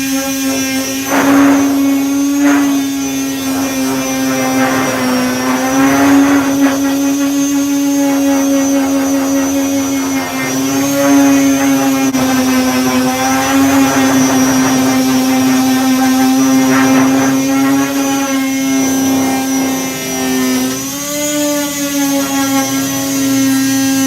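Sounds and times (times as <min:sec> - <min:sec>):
power sander running: 0:00.0 - 0:24.0.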